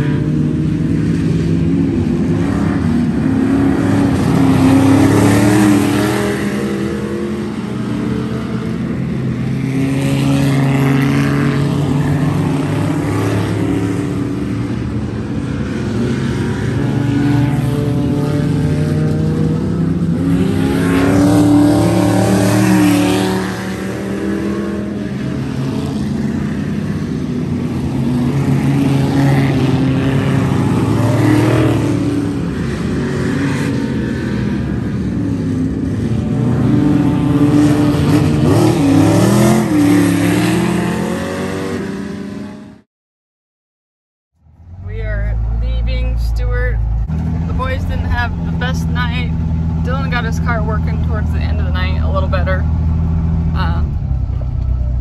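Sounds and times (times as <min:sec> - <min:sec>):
race car engines passing: 0:00.0 - 0:42.8, 0:44.4 - 0:55.0.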